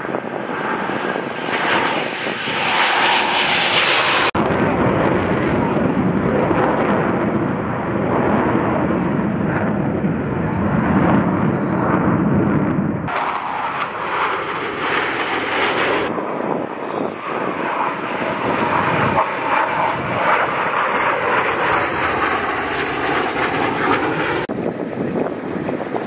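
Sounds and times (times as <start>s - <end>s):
faint jet whine: 0.0s - 26.0s
jet engines roaring overhead: 0.0s - 26.0s.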